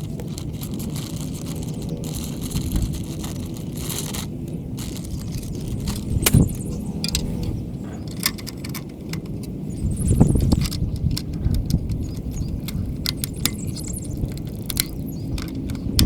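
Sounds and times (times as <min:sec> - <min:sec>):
tools clicking and scraping: 0:00.0 - 0:16.0.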